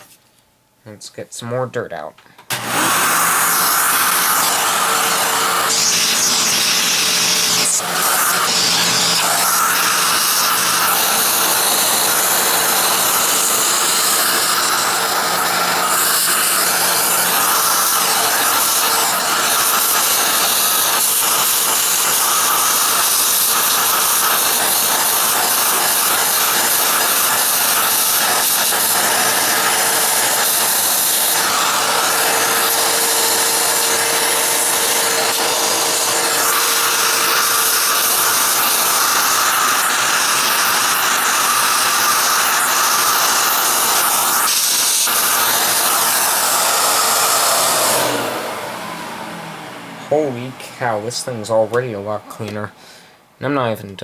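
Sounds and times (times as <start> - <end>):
vacuum cleaner sucking air: 2.4 - 53.3.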